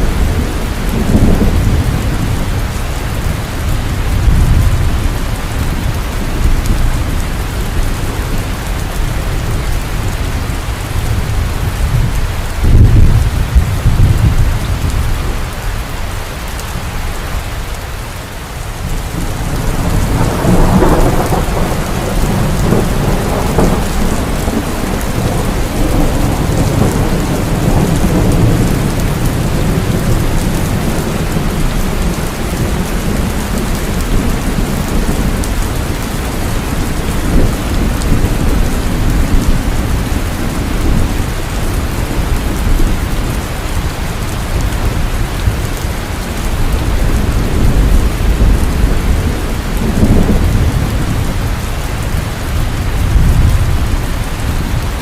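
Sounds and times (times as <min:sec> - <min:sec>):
thunder rumbling: 0:00.0 - 0:17.8, 0:18.4 - 0:55.0
heavy rain falling: 0:00.0 - 0:55.0.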